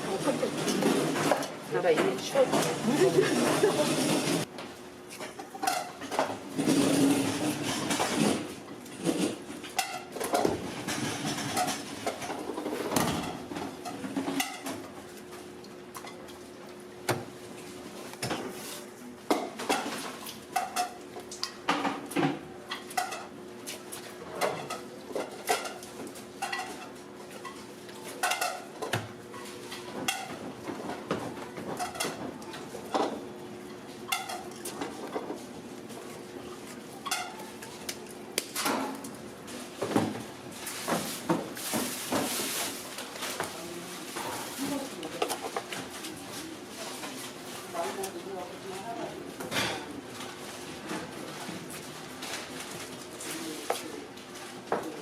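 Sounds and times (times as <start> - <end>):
utensils and dishes clinking: 0.0 - 4.5, 5.2 - 15.0, 18.2 - 35.5, 36.6 - 55.0.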